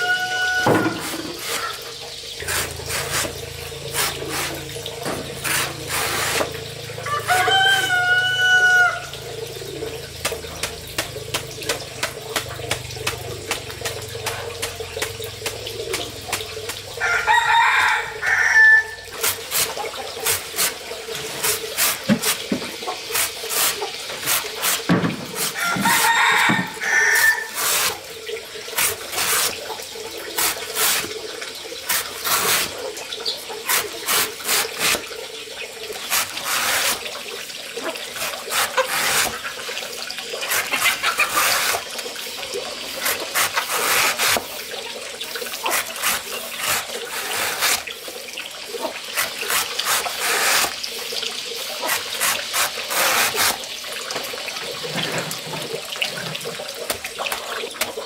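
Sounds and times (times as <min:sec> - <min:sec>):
water splashing and running: 0:00.0 - 0:58.0.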